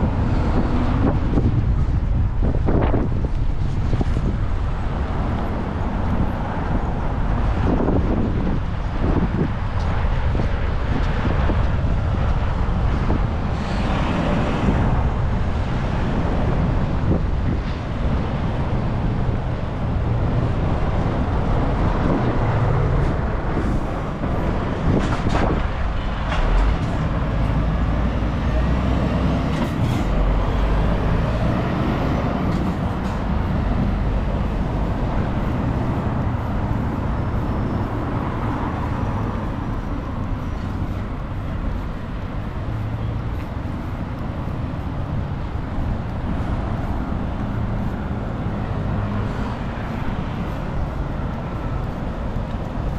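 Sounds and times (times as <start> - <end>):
road traffic rumble: 0.0 - 52.9.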